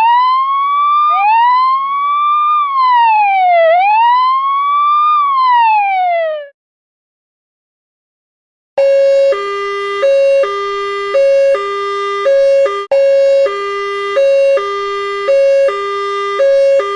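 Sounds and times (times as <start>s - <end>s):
two-tone emergency siren: 0.0s - 6.6s, 8.8s - 16.9s.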